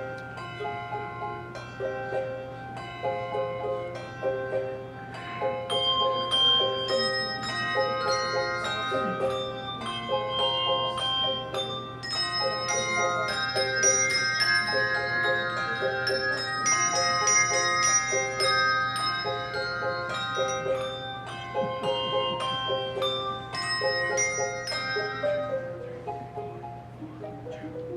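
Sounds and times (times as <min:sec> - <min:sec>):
handbell choir playing: 0:00.0 - 0:27.6.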